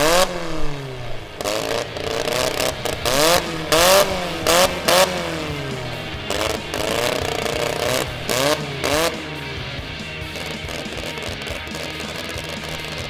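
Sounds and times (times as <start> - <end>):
car engine revving: 0.0 - 13.0
harsh exhaust rush: 0.0 - 13.0.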